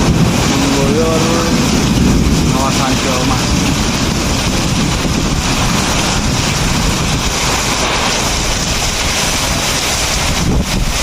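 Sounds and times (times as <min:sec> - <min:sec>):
heavy rain pouring: 0:00.0 - 0:11.0
wind buffeting microphone: 0:00.0 - 0:11.0.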